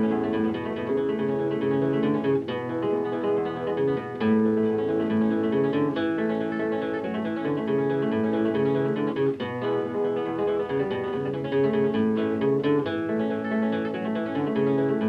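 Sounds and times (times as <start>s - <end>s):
flamenco-style acoustic guitar: 0.0s - 15.0s.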